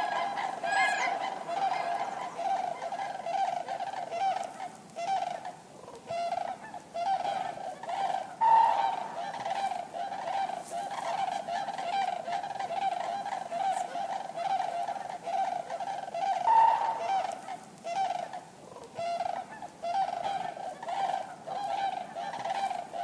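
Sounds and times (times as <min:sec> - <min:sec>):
cranes honking calls: 0:00.0 - 0:23.0.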